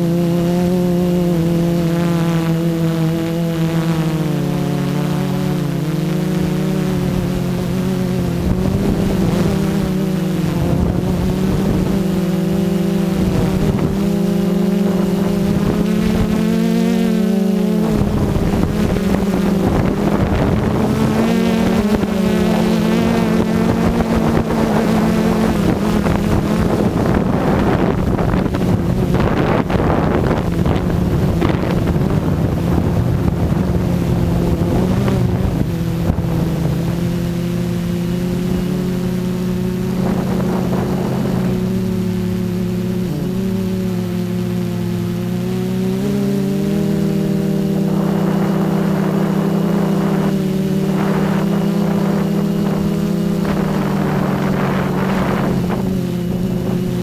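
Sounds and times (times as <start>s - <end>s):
drone motors and propellers: 0.0s - 57.0s
wind noise: 0.0s - 57.0s.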